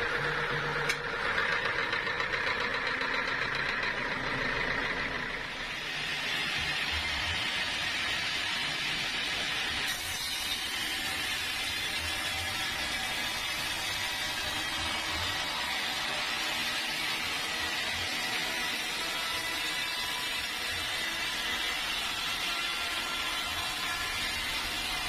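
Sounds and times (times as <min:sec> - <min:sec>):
sawmill machinery drone: 0:00.0 - 0:25.0.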